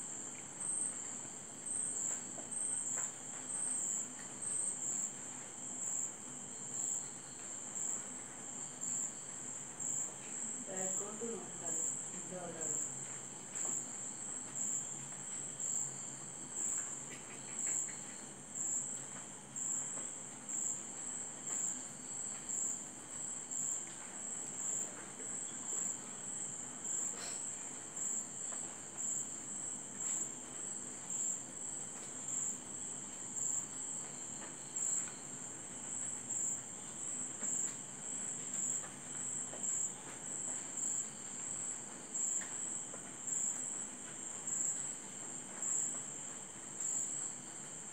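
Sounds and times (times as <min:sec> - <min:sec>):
cricket chirping: 0:00.2 - 0:47.9.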